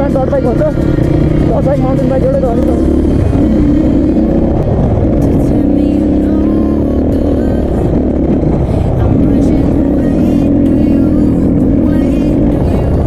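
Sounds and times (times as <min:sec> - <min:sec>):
dirt bike engine running: 0:00.0 - 0:13.0
wind rumble on microphone: 0:00.0 - 0:13.0.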